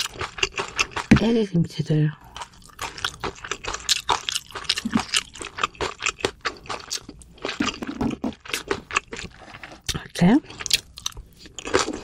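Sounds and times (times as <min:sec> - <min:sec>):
chewing crunchy food: 0:00.0 - 0:01.2, 0:02.2 - 0:12.0.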